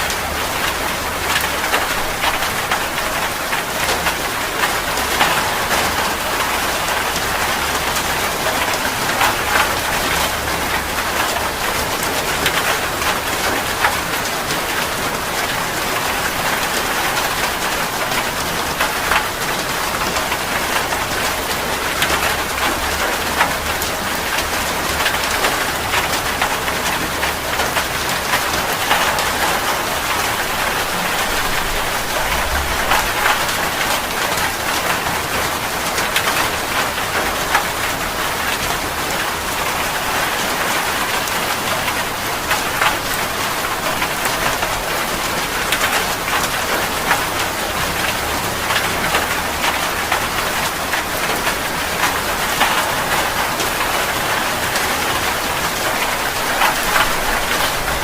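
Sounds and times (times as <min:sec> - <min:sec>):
steady rain falling: 0:00.0 - 0:58.0
raindrops ticking close by: 0:00.1 - 0:58.0.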